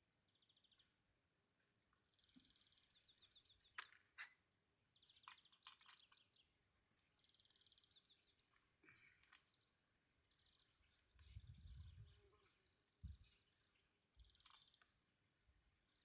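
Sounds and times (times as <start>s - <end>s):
trilling birdsong: 0.3s - 1.0s, 1.6s - 16.0s.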